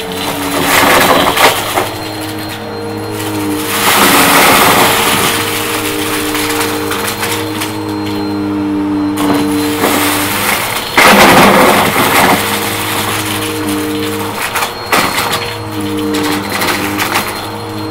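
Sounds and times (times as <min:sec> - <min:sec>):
debris crackling and rattling: 0:00.0 - 0:17.9
vacuum cleaner running: 0:00.0 - 0:17.9.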